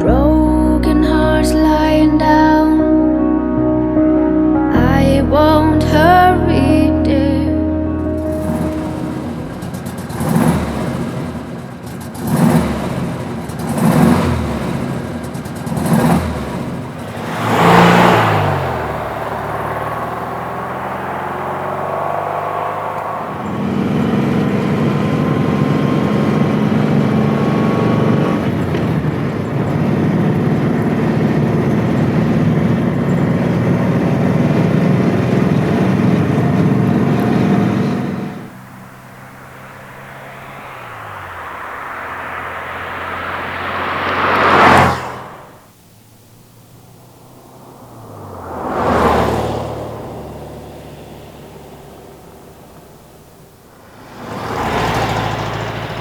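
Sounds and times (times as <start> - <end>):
car engine revving: 7.8 - 56.0.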